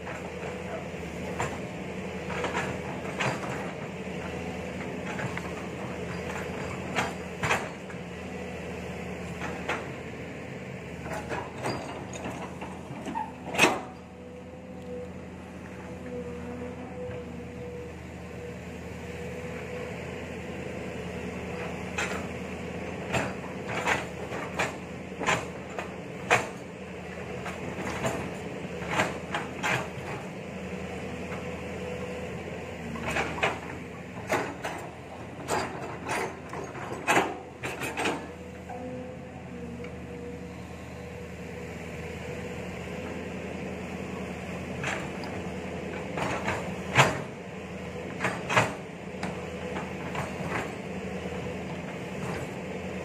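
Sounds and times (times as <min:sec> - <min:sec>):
excavator engine and hydraulics: 0:00.0 - 0:53.0.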